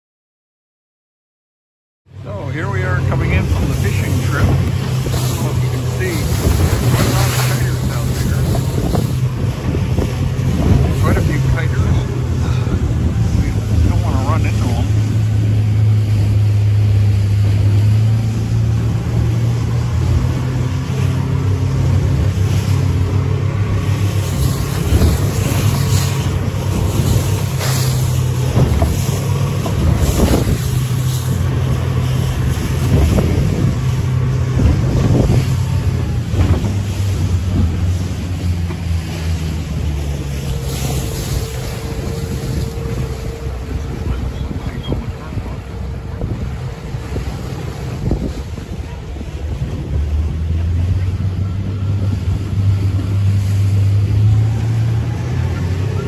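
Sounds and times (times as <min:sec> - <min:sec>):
boat hull thumping and splashing: 0:02.1 - 0:56.0
outboard motor running: 0:02.1 - 0:56.0
wind on microphone: 0:02.7 - 0:56.0.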